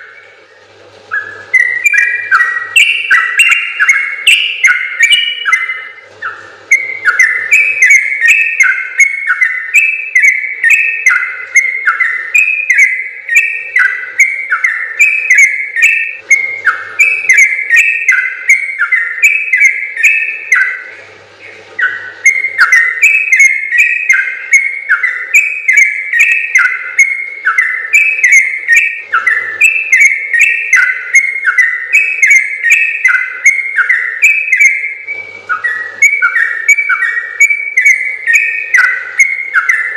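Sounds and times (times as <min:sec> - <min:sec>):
bird singing bubbling whistles: 0:00.0 - 0:39.9.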